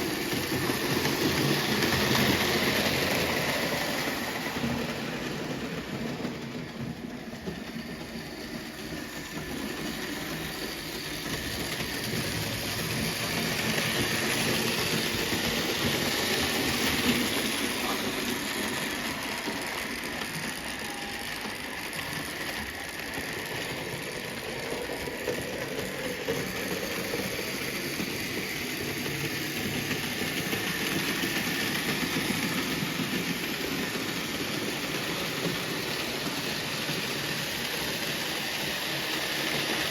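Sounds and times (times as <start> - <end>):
model train rattling on rails: 0.0 - 39.9.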